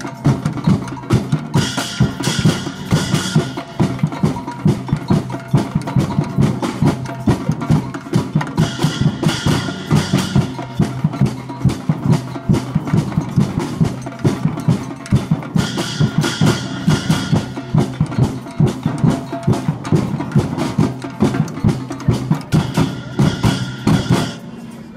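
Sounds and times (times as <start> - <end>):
brighter higher drum layer: 0.0 - 24.5
drum group playing: 0.0 - 24.7.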